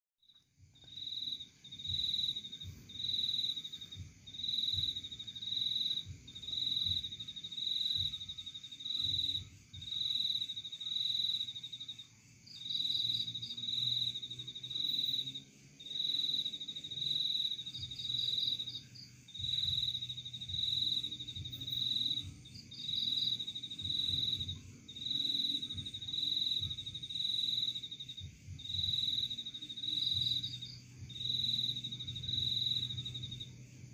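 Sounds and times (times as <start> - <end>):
high insect chirps: 0.3 - 33.9
insect pulsed trill: 0.3 - 33.9.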